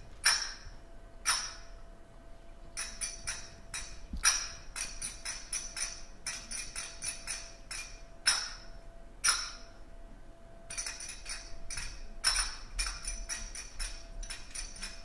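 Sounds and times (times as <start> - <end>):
finger cymbals ringing: 0.0 - 15.0.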